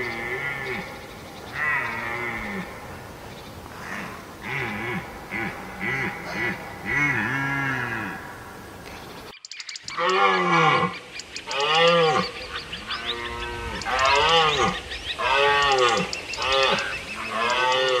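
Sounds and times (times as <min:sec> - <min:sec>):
animal calling: 0:00.0 - 0:18.0.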